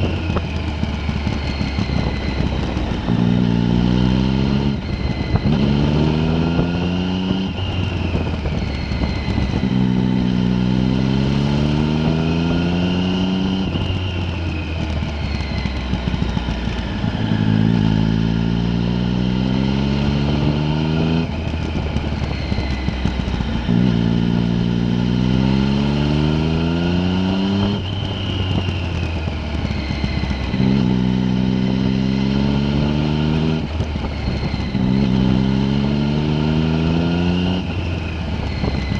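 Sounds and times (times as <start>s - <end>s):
vehicle engine accelerating: 0.0s - 38.9s.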